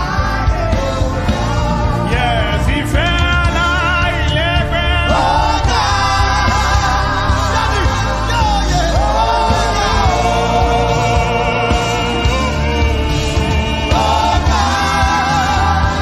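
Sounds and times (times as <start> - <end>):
band backing: 0.0 - 16.0
voices singing held notes: 0.0 - 16.0.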